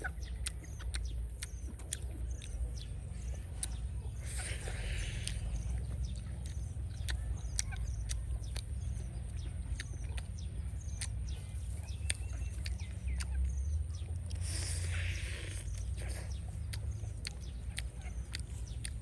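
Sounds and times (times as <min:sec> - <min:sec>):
birds chirping: 0:00.0 - 0:19.0
steady low rumble: 0:00.0 - 0:19.0
sharp clicks: 0:00.2 - 0:19.0.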